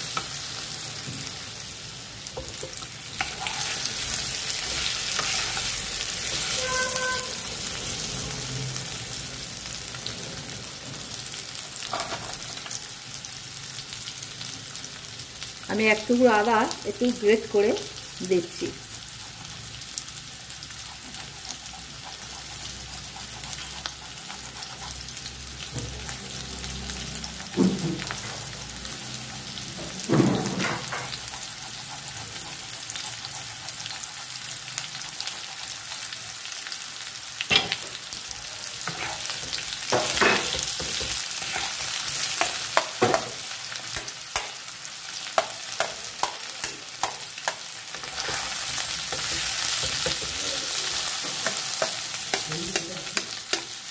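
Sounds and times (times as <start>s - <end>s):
potatoes sizzling in oil: 0.0s - 53.9s.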